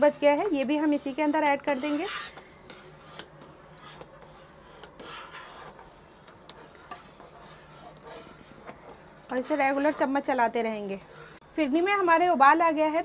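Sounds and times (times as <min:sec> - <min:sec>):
metal spoon scraping steel pot: 0:00.0 - 0:11.4.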